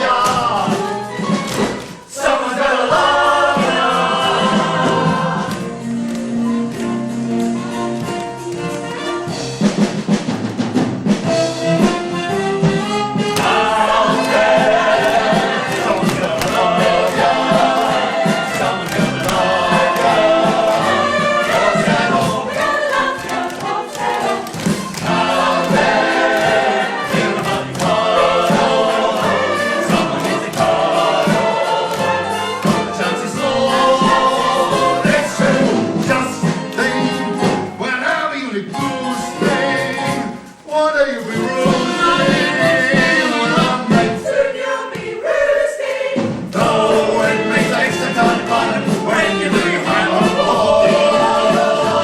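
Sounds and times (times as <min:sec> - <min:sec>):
group singing with instruments: 0:00.0 - 0:40.6, 0:41.2 - 0:52.0.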